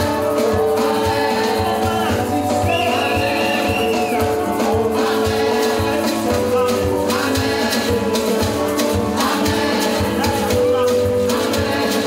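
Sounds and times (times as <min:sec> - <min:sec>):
keyboard: 0:00.0 - 0:12.0
shaker rattling: 0:00.0 - 0:12.0
steady drum beat: 0:00.0 - 0:12.0
voices singing: 0:00.0 - 0:12.0.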